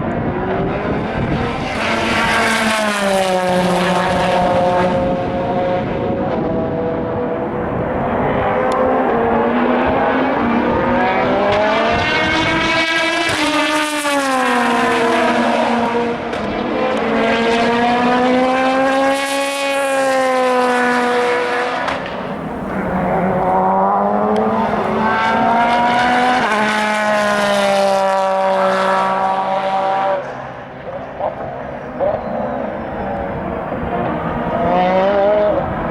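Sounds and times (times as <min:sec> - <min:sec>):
race cars passing at speed: 0:00.0 - 0:35.9.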